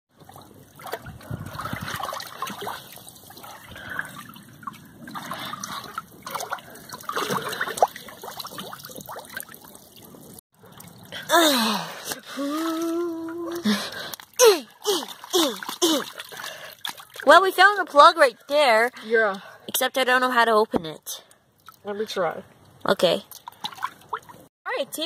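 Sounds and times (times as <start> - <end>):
water sloshing and splashing: 0.1 - 18.5, 21.3 - 24.5.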